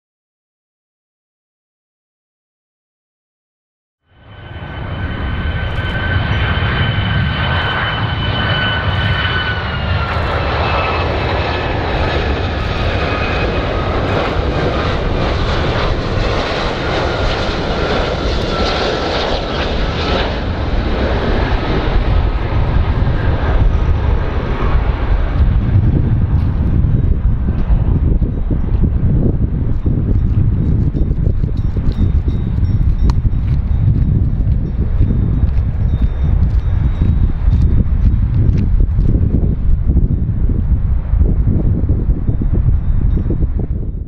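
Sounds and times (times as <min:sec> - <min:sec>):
high jet whine: 0:04.0 - 0:44.0
jet engines roaring: 0:04.1 - 0:43.9
low rumble: 0:04.2 - 0:44.0.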